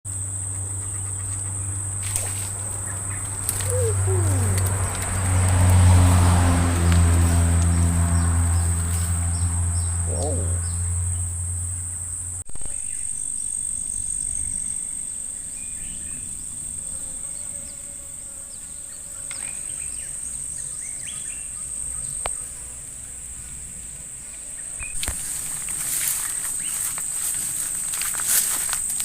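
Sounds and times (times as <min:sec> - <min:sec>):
insects buzzing: 0:00.1 - 0:29.0.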